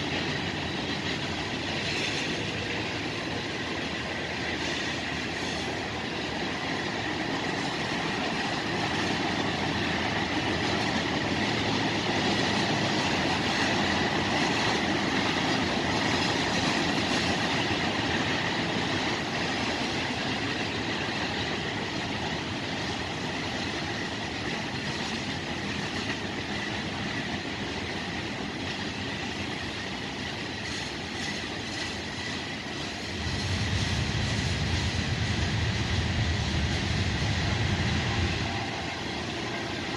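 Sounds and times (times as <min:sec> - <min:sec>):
freight train wheels rattling: 0:00.0 - 0:39.9.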